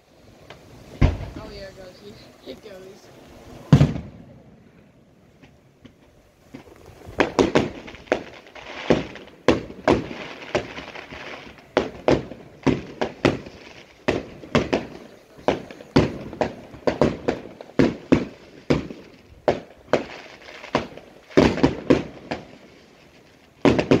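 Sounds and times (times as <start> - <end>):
firework crackling: 0.0 - 24.0
firework shells bursting: 3.6 - 24.0.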